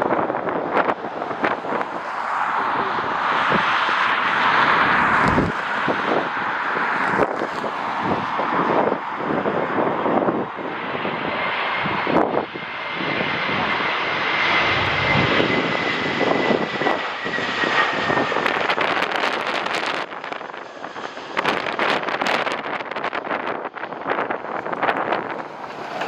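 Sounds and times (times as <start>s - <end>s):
jet engines roaring: 0.0s - 26.0s
wind buffeting microphone: 0.0s - 26.0s
thin engine whine: 0.1s - 26.0s.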